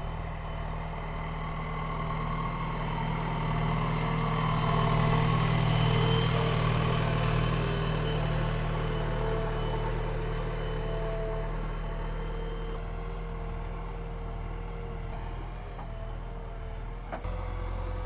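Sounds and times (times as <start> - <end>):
diesel engine running at low revs: 0.0 - 18.0.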